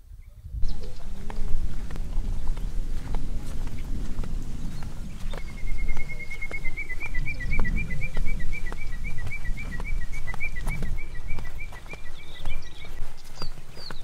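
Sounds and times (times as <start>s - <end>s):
footsteps on wooden boardwalk: 0.6s - 14.0s.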